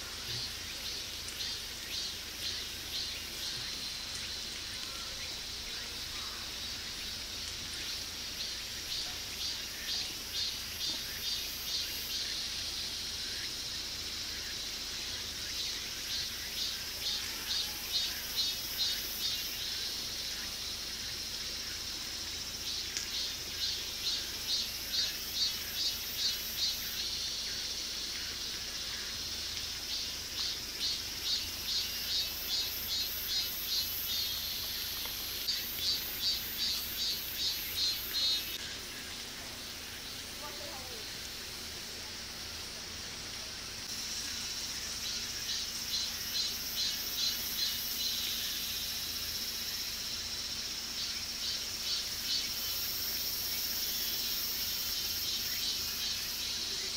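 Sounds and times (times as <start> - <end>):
cicadas high buzz: 0.0 - 56.9
cicadas rhythmic pulsing calls: 0.0 - 56.9.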